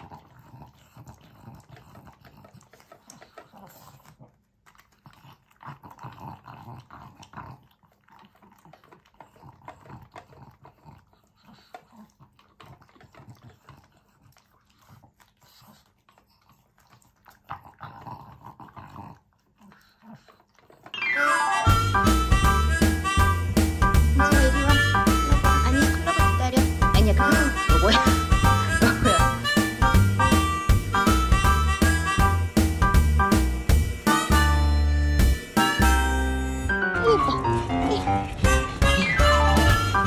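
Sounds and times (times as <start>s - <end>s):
dog licking bowl: 0.0s - 21.1s, 21.7s - 34.6s.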